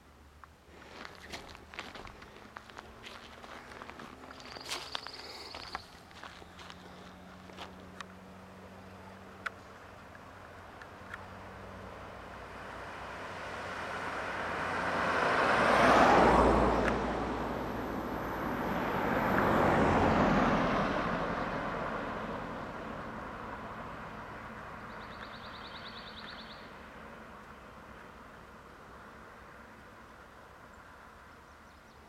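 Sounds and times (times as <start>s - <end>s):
cars passing by: 0.0s - 32.0s.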